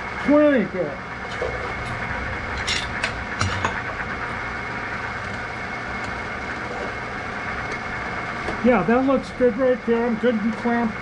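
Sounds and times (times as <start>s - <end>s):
drill press humming: 0.8s - 11.0s.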